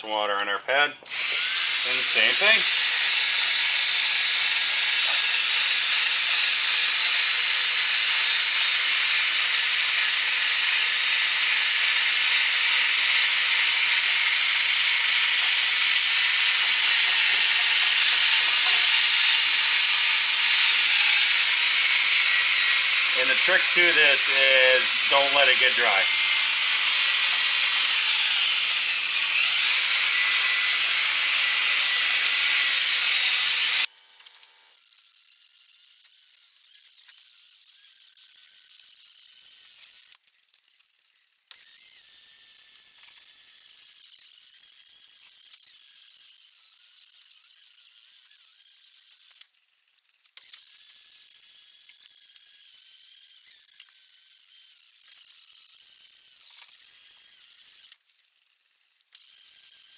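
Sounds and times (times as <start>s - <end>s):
drill sanding plastic: 1.0s - 40.3s, 41.4s - 49.5s, 50.3s - 58.1s, 59.1s - 59.9s.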